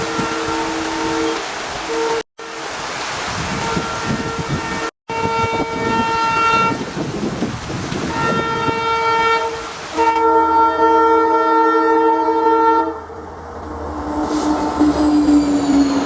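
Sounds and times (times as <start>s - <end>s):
locomotive air horn: 0.0s - 6.8s, 8.0s - 13.1s, 13.9s - 16.0s
heavy rain: 0.0s - 16.0s
moving train rumble: 0.0s - 16.0s.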